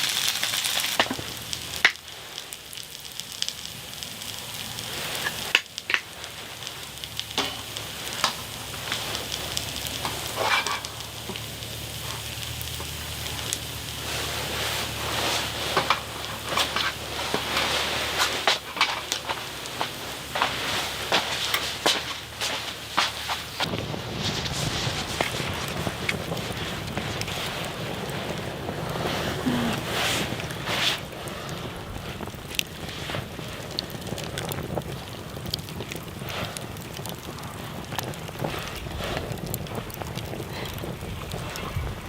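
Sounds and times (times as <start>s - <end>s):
food frying sizzle: 0.0s - 42.0s.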